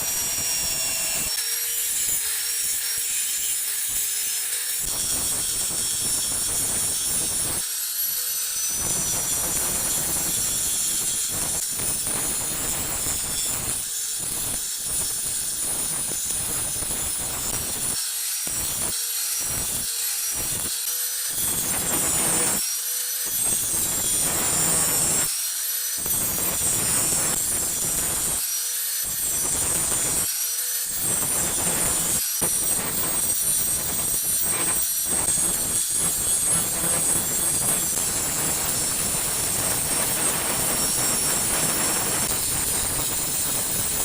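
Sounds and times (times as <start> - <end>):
steel scraping hiss: 0.0 - 44.0.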